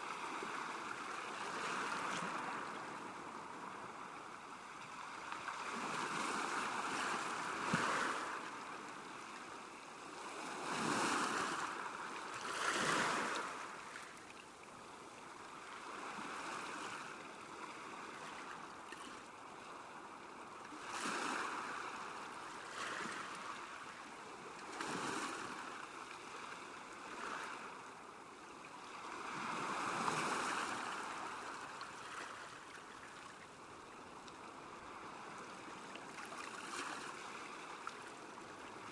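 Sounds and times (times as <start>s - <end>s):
small waves lapping at shore: 0.0s - 38.9s.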